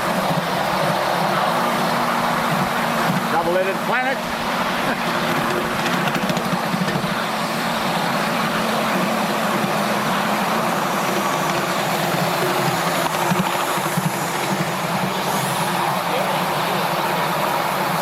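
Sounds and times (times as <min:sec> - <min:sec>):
miniature steam train rumbling: 0:00.0 - 0:18.0
steam hissing: 0:00.0 - 0:18.0.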